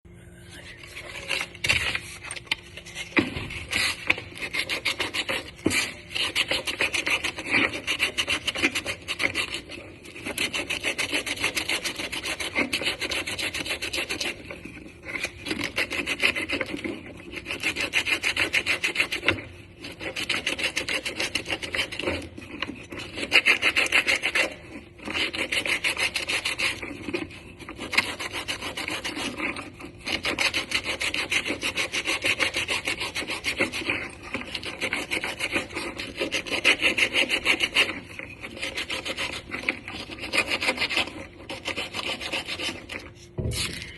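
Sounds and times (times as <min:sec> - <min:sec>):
hand sanding scratchy strokes: 0:00.7 - 0:43.6.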